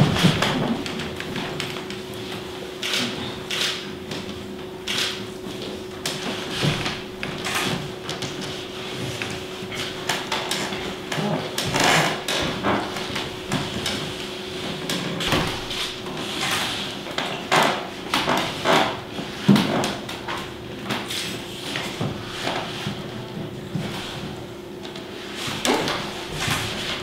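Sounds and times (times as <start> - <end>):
dough being kneaded by hand: 0.0 - 27.0.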